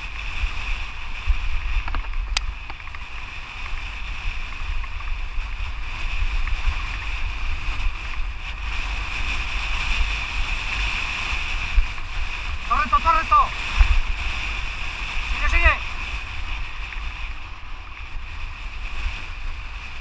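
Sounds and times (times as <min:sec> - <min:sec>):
bike tyres rolling over trail: 0:00.0 - 0:20.0
wind buffeting microphone: 0:00.0 - 0:20.0.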